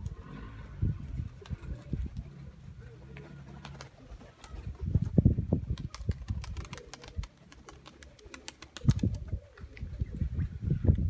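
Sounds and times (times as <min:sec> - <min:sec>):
pigeons cooing: 0:00.0 - 0:04.9, 0:05.9 - 0:10.9.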